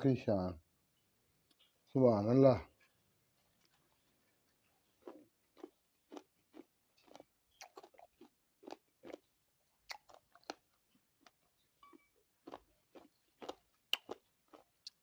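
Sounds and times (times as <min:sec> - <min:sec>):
person chewing fruit: 0:02.8 - 0:15.0.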